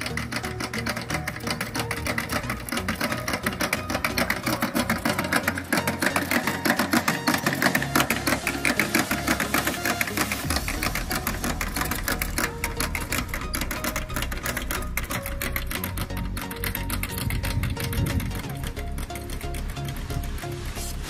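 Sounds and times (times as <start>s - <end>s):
planter clicking rapidly: 0.0s - 21.0s.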